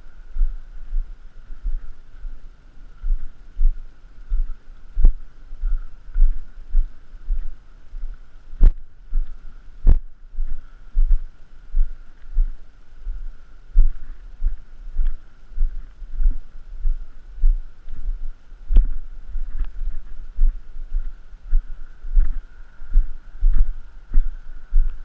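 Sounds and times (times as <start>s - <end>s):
faint steady whine: 0.0s - 25.0s
footsteps on a trail: 0.0s - 25.0s.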